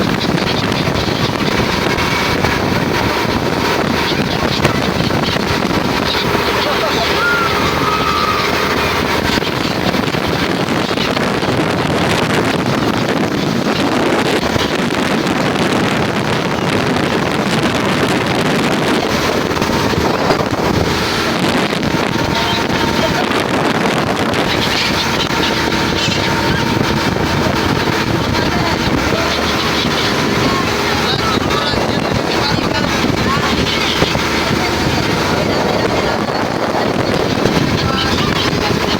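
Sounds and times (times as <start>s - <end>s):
motor boat engine running: 0.0s - 38.9s
wind on microphone: 0.0s - 38.9s.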